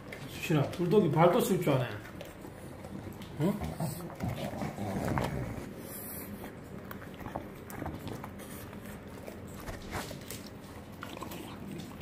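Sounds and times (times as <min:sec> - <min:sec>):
dog chewing and crunching: 0:00.0 - 0:12.0.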